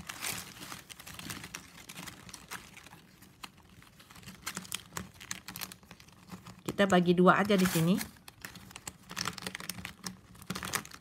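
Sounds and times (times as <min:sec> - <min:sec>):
plastic strapping clicking and rustling: 0:00.0 - 0:11.0.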